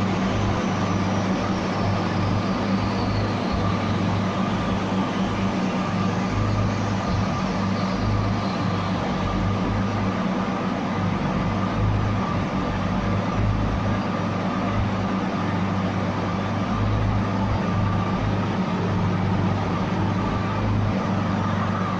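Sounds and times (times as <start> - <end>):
car engine running steadily: 0.0 - 21.9.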